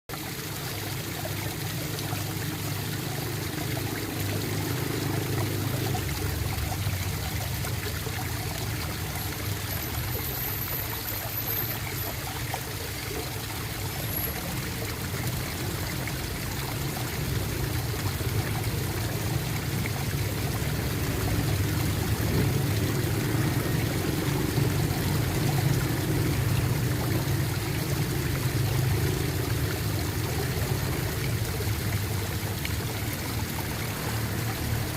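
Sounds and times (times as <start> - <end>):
water flowing and gurgling: 0.1 - 34.9.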